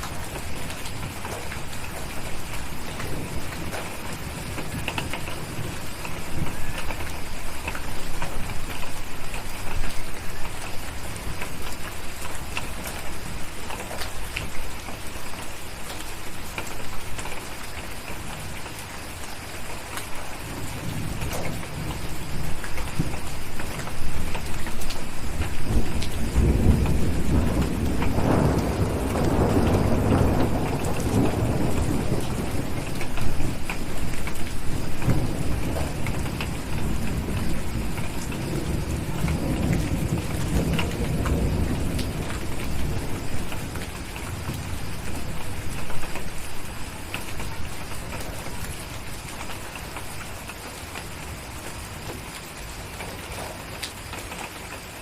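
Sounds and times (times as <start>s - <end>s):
low rumble of thunder: 0.0s - 18.7s, 20.2s - 50.4s
steady rain: 0.0s - 55.0s.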